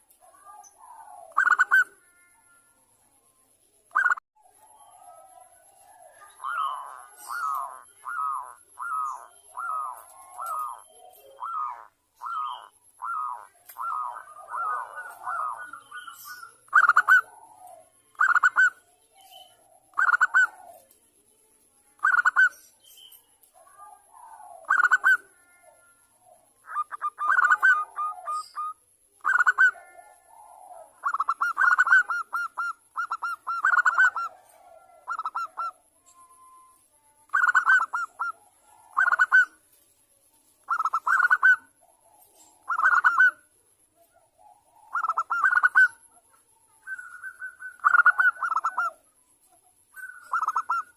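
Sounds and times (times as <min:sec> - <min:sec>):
doves cooing in trills: 0:00.0 - 0:02.8, 0:03.9 - 0:21.0, 0:22.0 - 0:22.6, 0:23.5 - 0:39.6, 0:40.6 - 0:50.9
fainter lower bird calls: 0:00.0 - 0:50.9.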